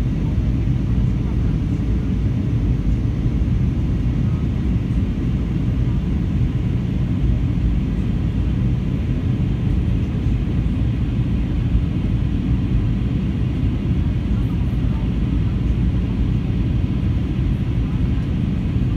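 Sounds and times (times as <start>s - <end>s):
airplane cabin rumble: 0.0s - 18.9s.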